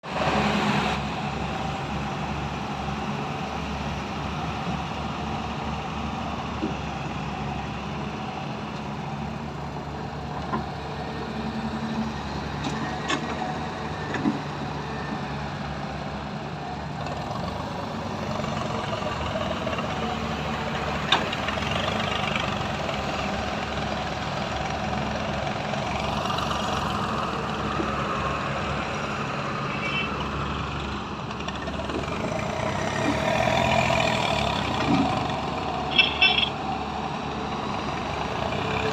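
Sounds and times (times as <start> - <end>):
excavator diesel engine running: 0.1 - 38.9.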